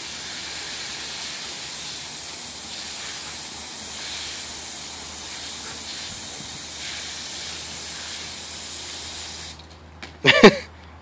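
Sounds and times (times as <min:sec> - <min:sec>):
hose spraying water: 0:00.0 - 0:09.8.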